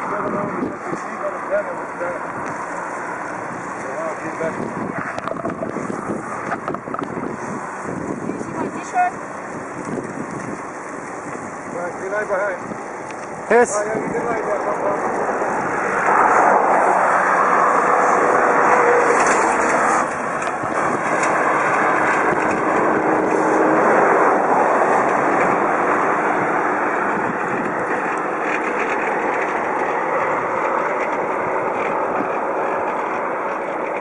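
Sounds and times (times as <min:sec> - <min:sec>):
road travel rumble and hiss: 0:00.0 - 0:34.0.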